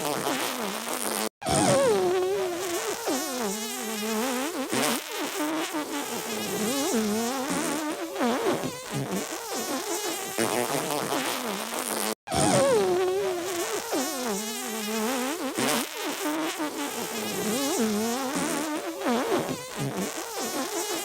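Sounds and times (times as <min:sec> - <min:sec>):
fart sound effects: 0:00.0 - 0:21.0.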